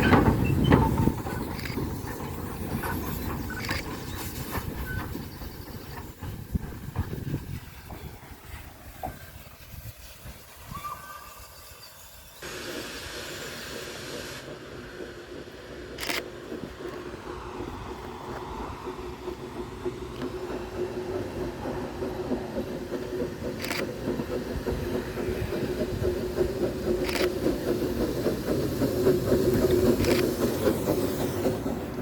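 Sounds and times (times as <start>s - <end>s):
locomotive running with low tone: 0.0s - 10.5s, 11.1s - 32.0s
steam hissing: 0.0s - 32.0s.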